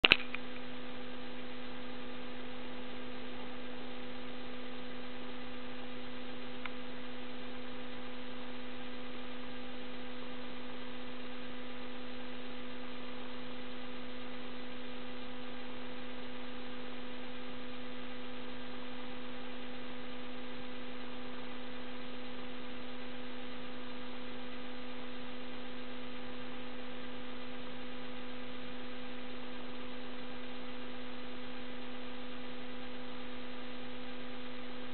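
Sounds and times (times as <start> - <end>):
steady electrical hum: 0.0 - 34.9.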